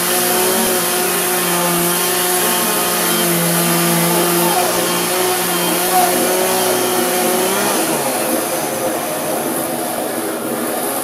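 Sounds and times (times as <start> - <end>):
electric chainsaw whirring: 0.0 - 11.0
gas chainsaw running: 0.0 - 11.0.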